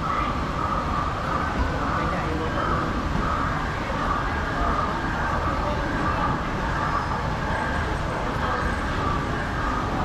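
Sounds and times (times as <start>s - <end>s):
murmur of distant voices: 0.0s - 10.0s.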